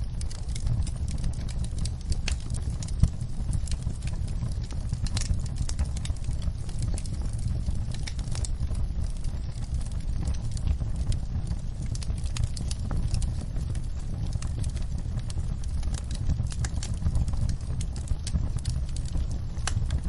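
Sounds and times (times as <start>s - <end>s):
rain pattering on window: 0.0s - 20.0s
wood fire crackling: 0.0s - 20.0s.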